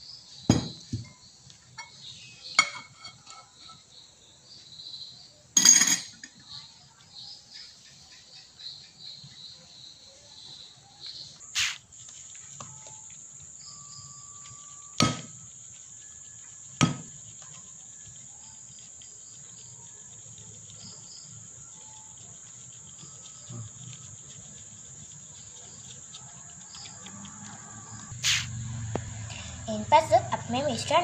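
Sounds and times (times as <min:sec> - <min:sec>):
high-pitched insect trill: 0:00.0 - 0:31.0.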